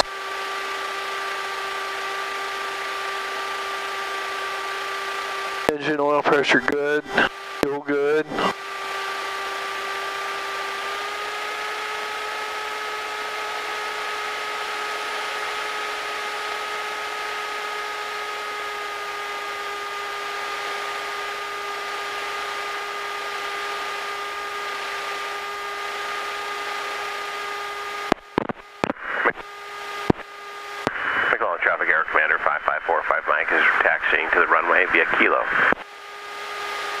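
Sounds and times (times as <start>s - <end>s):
light aircraft engine whining hum: 0.0s - 37.0s.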